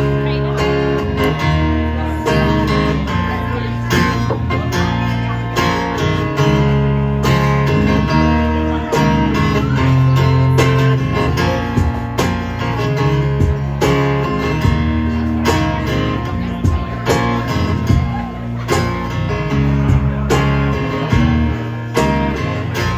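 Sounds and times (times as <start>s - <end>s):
bass line: 0.0s - 22.9s
guitars: 0.0s - 22.9s
steady drum beat: 3.8s - 22.9s.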